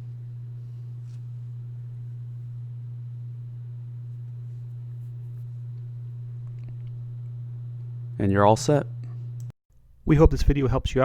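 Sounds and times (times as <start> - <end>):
steady low-pitched hum: 0.0 - 11.0.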